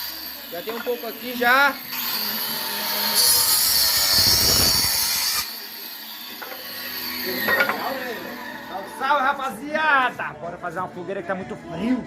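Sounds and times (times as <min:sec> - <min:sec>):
firewood being sawn: 0:00.0 - 0:10.3.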